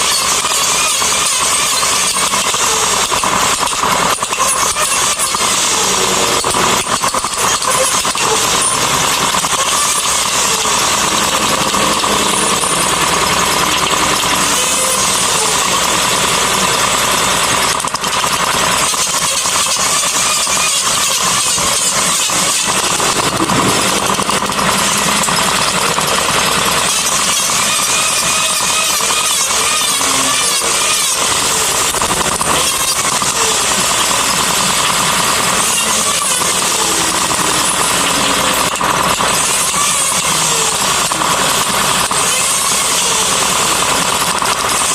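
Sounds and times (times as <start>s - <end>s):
power tool grinding wood: 0.0s - 44.9s.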